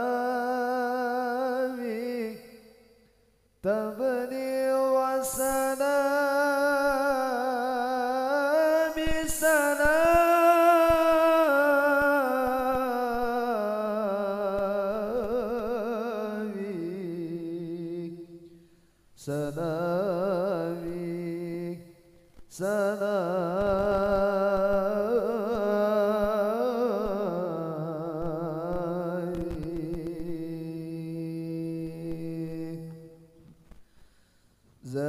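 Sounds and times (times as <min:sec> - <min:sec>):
person singing devotional song: 0:00.0 - 0:03.0, 0:03.6 - 0:34.1, 0:34.8 - 0:35.0.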